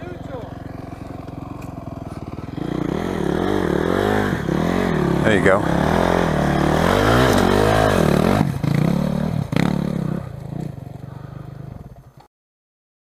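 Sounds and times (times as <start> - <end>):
dirt bike engine revving: 0.0 - 12.1.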